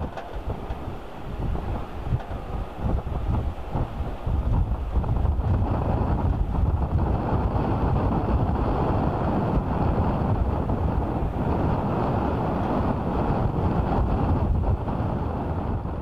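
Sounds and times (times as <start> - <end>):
jet engines rumbling: 0.0 - 16.0
wind buffeting microphone: 0.0 - 16.0.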